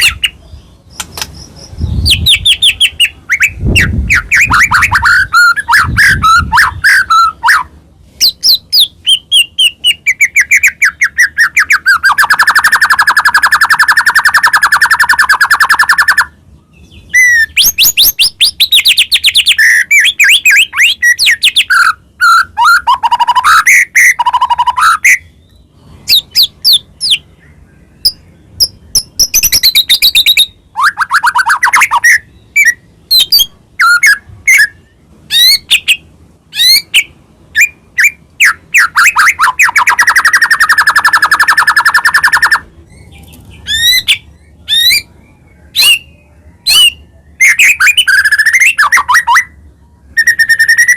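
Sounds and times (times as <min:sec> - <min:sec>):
bird singing trills and whistles: 0:00.0 - 0:50.9.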